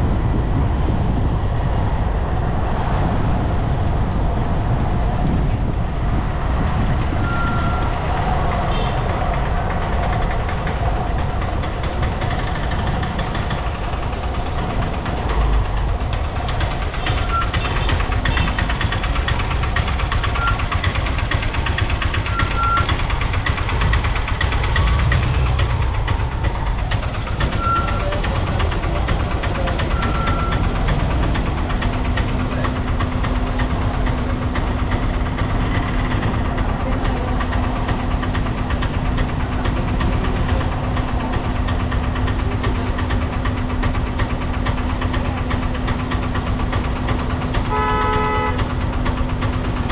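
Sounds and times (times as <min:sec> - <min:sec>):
vehicle engine and road noise: 0:00.0 - 0:49.9.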